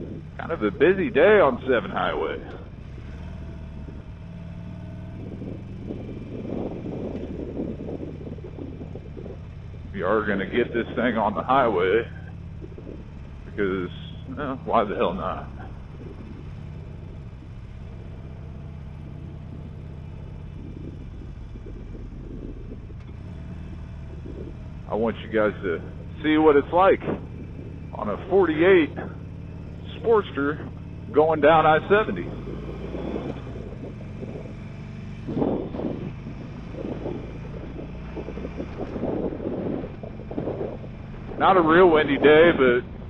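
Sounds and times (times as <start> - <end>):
motorcycle engine running: 0.0 - 43.0
road noise: 0.0 - 43.0
wind buffeting microphone: 0.0 - 43.0.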